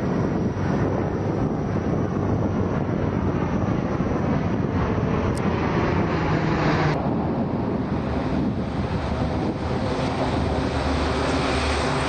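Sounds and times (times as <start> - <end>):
turboprop aircraft drone overhead: 0.0 - 12.0.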